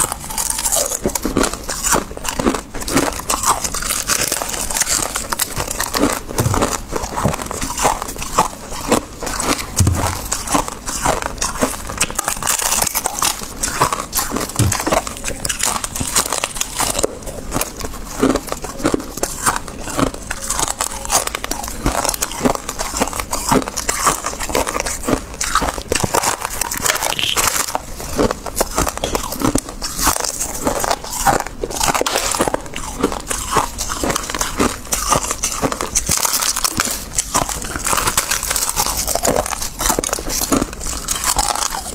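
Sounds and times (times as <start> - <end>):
frost being bitten and chewed: 0.0 - 41.9.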